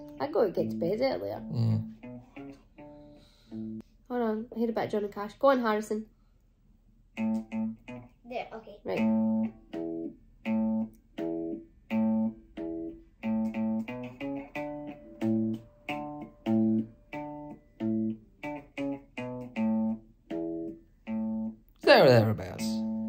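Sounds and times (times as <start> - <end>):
guitar plucked melody: 0.0 - 3.8, 7.2 - 8.2, 8.9 - 23.0.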